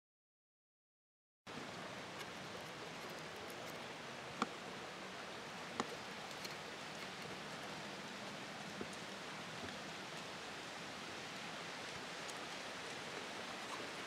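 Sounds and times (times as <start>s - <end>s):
outdoor background hiss: 1.5s - 14.0s.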